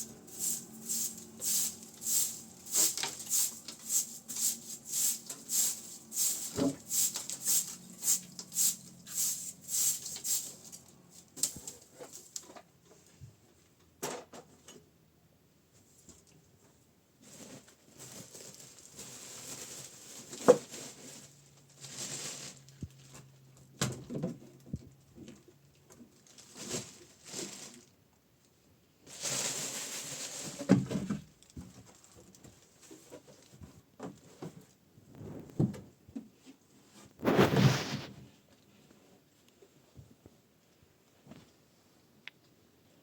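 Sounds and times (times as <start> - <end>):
rustling and scraping handling: 0.0 - 13.7, 15.8 - 28.0, 29.1 - 42.0.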